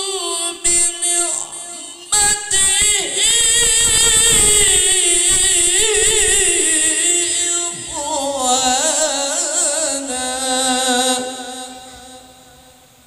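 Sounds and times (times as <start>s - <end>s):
man reciting over loudspeaker: 0.0s - 13.0s.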